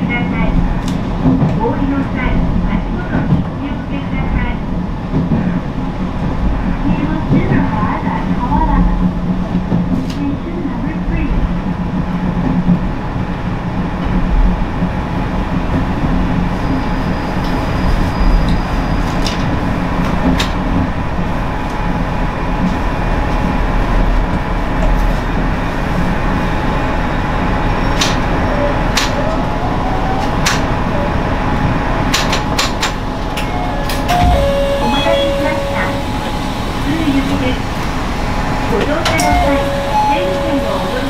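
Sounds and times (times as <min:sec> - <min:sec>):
train engine and wheel rumble: 0:00.0 - 0:41.0.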